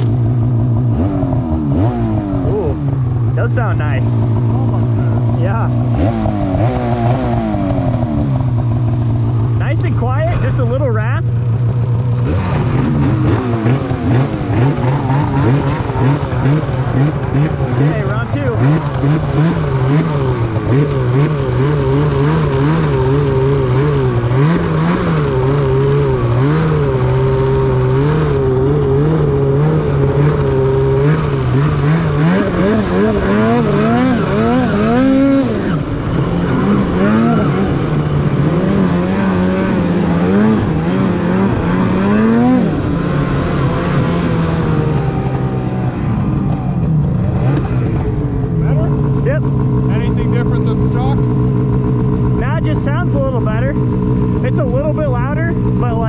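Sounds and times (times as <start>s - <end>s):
snowmobile engine idling and revving: 0.0s - 56.0s.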